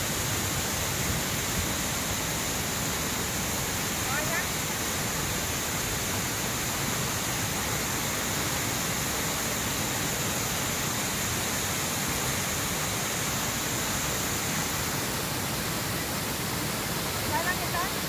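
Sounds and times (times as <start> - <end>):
waterfall splashing down rock: 0.0 - 18.0.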